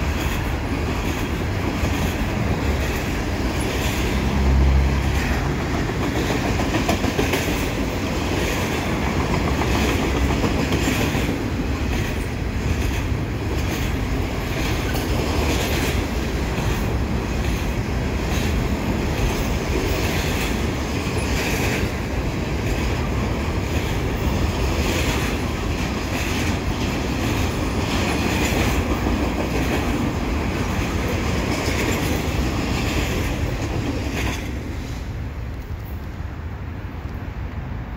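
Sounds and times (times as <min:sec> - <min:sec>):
train wheels clacking: 0:00.0 - 0:34.9
train rumbling past: 0:00.0 - 0:37.9.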